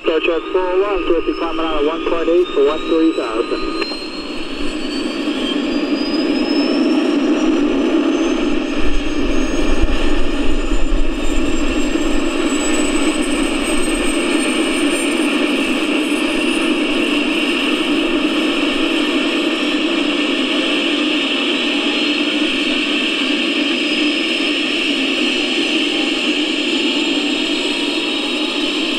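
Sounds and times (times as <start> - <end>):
turbine start-up whine: 0.0 - 28.9.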